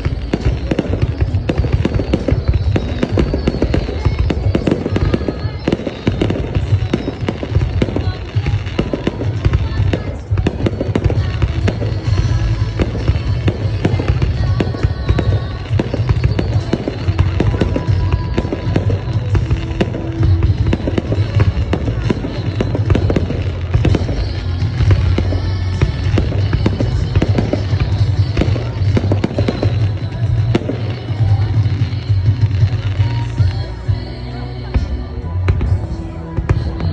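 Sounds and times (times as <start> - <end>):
fireworks bangs and crackles: 0.0 - 36.9
music playing: 0.0 - 36.9.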